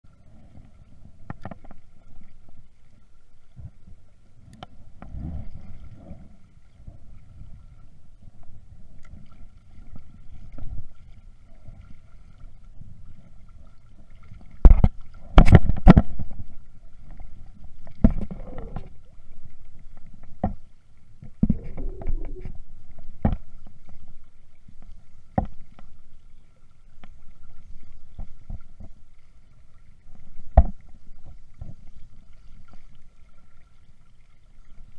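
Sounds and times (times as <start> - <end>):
wind: 0.0 - 34.9.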